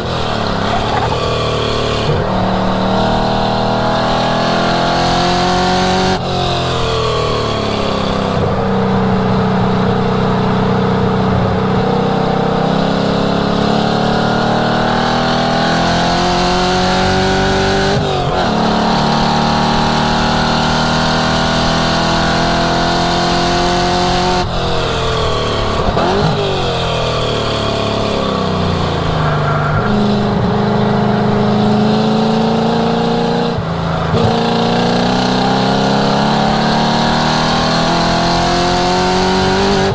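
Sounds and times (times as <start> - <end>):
car exhaust under hard acceleration: 0.0 - 39.9.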